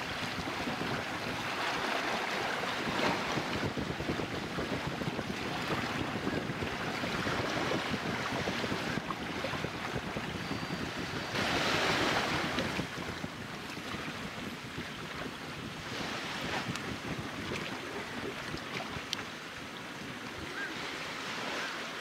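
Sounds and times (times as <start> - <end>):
wind buffeting microphone: 0.0 - 21.4
waves washing on shore: 0.0 - 22.0.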